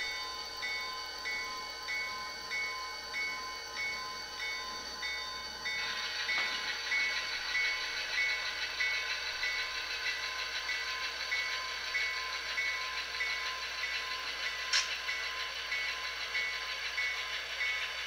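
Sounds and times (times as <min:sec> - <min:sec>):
model locomotive bell ringing: 0:00.0 - 0:18.0.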